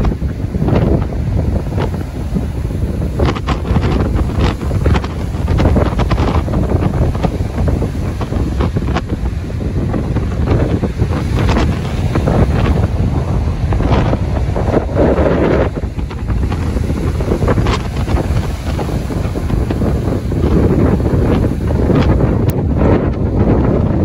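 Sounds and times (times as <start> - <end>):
ocean waves breaking: 0.0 - 24.0
wind buffeting microphone: 0.0 - 24.0.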